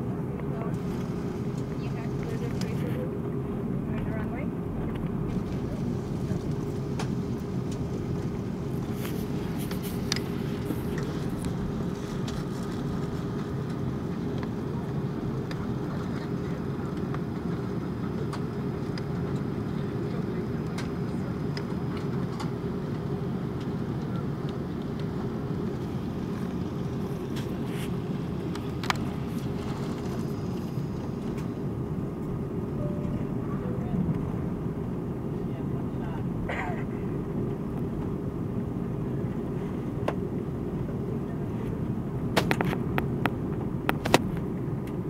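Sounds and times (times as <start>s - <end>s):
aircraft engines rumbling: 0.0s - 45.0s.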